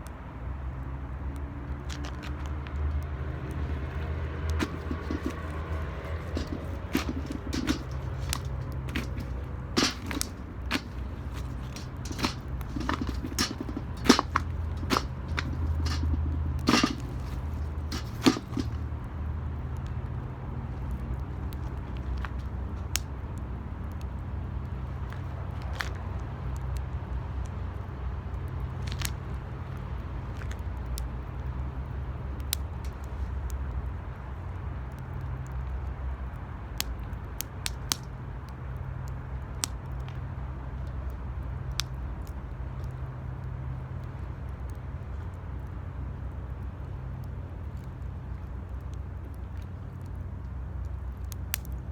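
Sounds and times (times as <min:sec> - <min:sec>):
fire low rumble: 0:00.6 - 0:51.9
wood fire crackling and popping: 0:01.3 - 0:51.9.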